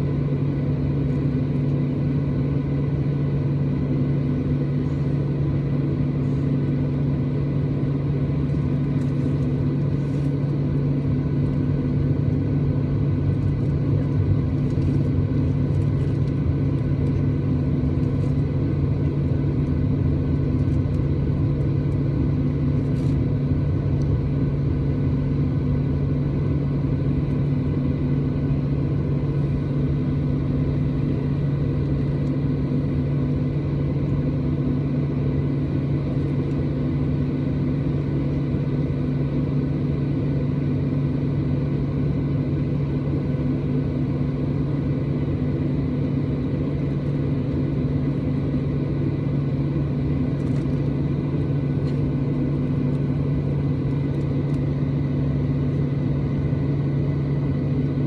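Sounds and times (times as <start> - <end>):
jet engines idling: 0.0 - 58.0.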